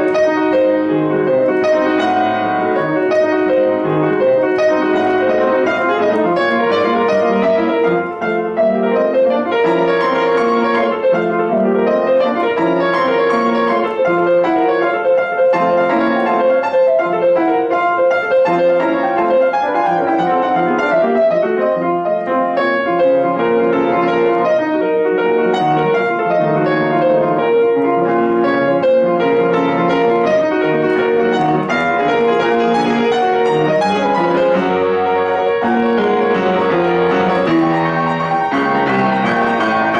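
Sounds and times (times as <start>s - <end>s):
solo piano classical music: 0.0s - 39.9s.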